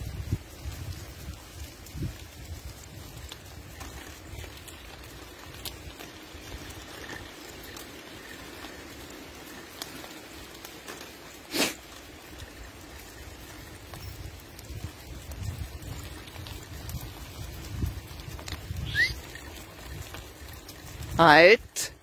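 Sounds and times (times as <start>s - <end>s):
footsteps on dirt path: 0.0s - 22.0s.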